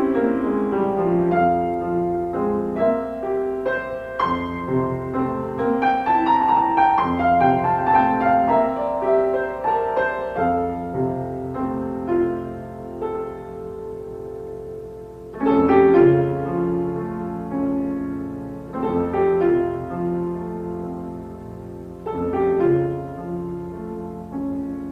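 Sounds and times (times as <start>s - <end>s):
slow piano music: 0.0s - 24.9s.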